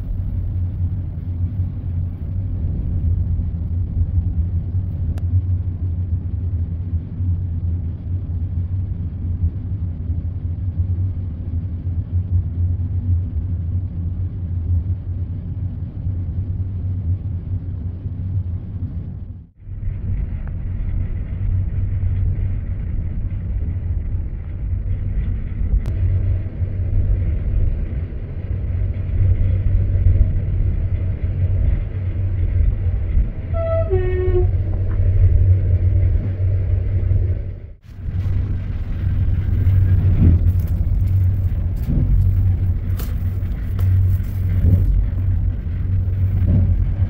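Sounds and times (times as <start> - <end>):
train rumble inside carriage: 0.0 - 47.0.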